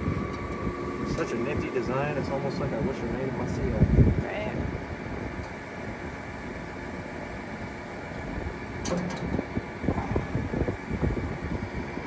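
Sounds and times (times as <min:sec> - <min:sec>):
tractor engine running: 0:00.0 - 0:12.0
wind buffeting the microphone: 0:00.0 - 0:12.0.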